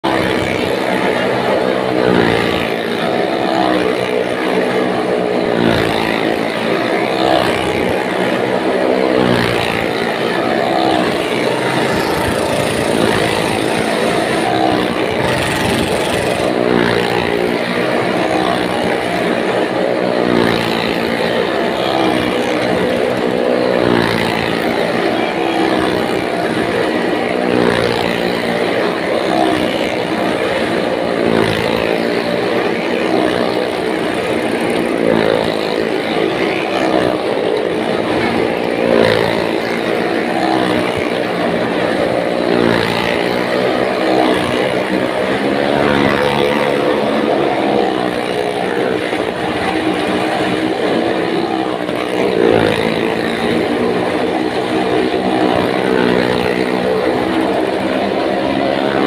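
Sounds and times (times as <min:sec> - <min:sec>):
motorcycle and car engines racing: 0:00.0 - 0:59.0.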